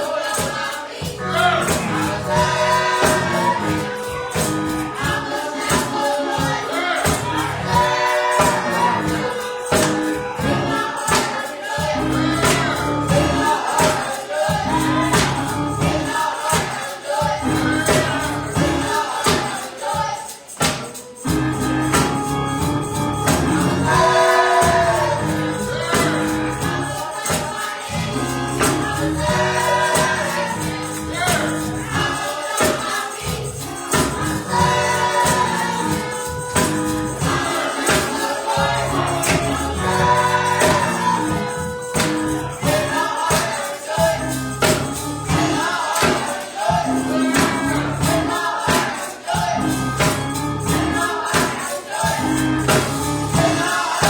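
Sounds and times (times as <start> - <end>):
band playing a steady beat: 0.0 - 54.0
gospel choir singing: 0.0 - 54.0
tambourine: 0.0 - 54.0.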